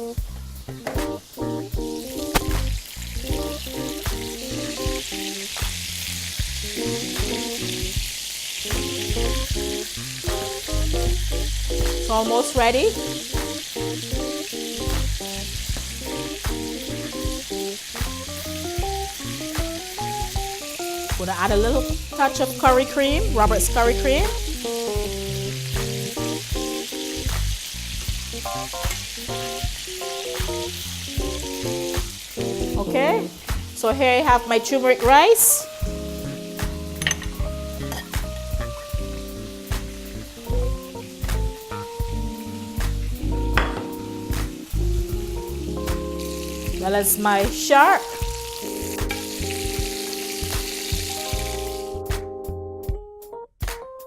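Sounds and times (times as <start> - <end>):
food sizzling in hot oil: 0.0 - 52.1
background music: 0.0 - 54.0.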